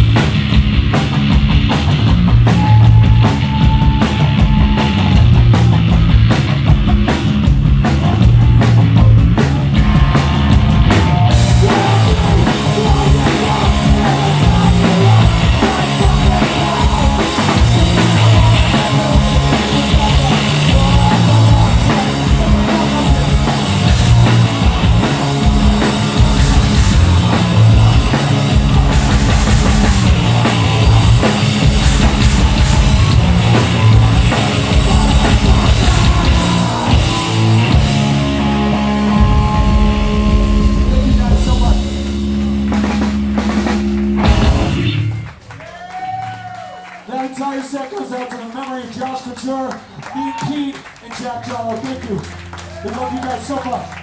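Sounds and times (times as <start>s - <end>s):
heavy band playing: 0.0s - 54.0s.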